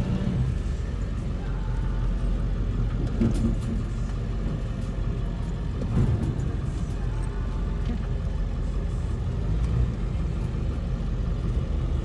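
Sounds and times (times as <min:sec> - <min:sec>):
truck engine and tyres rumble: 0:00.0 - 0:12.0.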